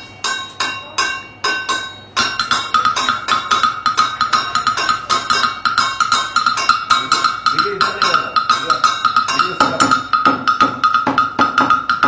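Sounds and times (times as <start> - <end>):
sticks drumming on plastic buckets: 2.2 - 12.0.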